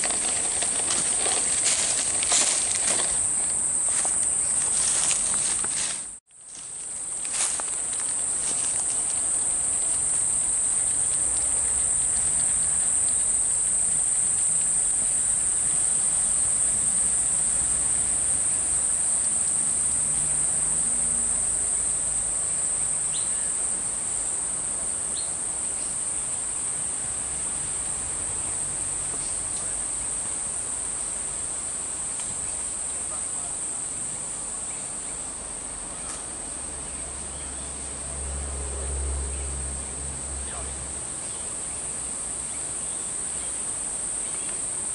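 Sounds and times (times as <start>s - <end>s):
high-pitched insect chorus: 0.0s - 44.9s.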